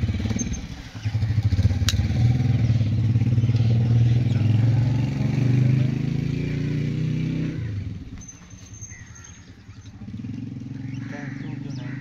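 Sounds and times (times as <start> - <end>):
motorcycle engine running: 0.0 - 12.0
birds chirping faintly: 0.1 - 12.0.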